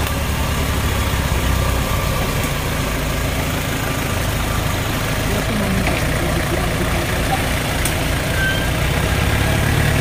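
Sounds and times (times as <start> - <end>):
engine idling rumble: 0.0 - 10.0.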